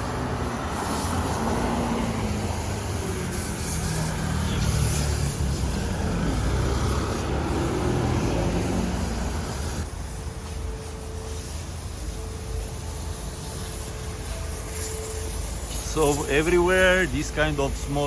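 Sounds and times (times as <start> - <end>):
motor vehicle engines running: 0.0 - 18.0.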